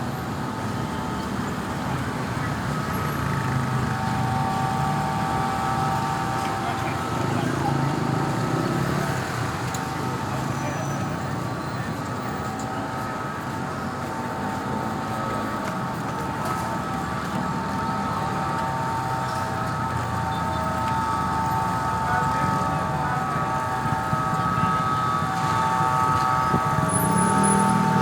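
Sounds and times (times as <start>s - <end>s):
continuous multi-tone whine: 0.0s - 28.0s
vehicle rumble: 0.0s - 28.0s.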